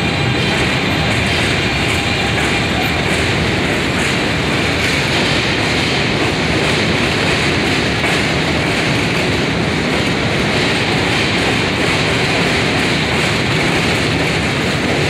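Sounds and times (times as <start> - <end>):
subway train wheels on rails: 0.0 - 15.0.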